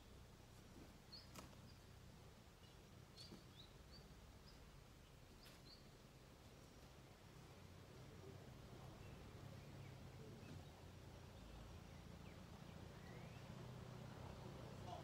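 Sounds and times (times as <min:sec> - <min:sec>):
faint low hum: 0:00.0 - 0:15.0
faint bird chirps: 0:00.8 - 0:06.8, 0:08.2 - 0:15.0.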